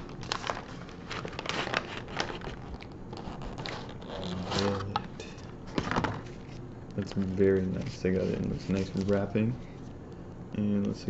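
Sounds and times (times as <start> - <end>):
paper bag crinkling and rustling: 0.0 - 9.5.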